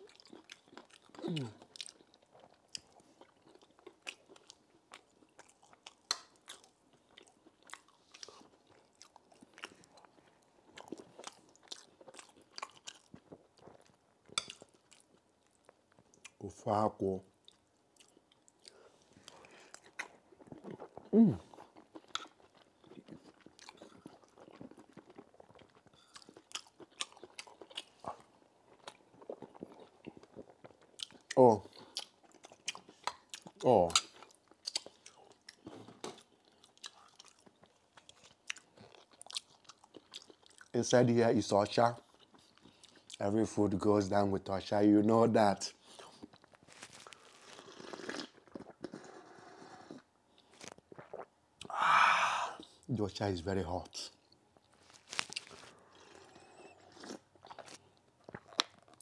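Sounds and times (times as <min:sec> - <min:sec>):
man chewing food: 0:00.0 - 0:16.4, 0:17.3 - 0:40.8, 0:42.0 - 0:43.2, 0:45.7 - 0:52.9, 0:54.1 - 0:59.0.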